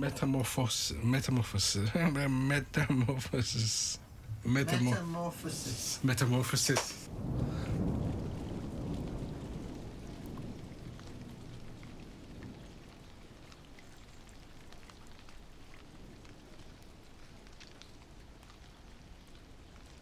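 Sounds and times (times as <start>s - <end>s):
light rain falling: 0.0s - 20.0s
raindrops ticking: 0.0s - 20.0s.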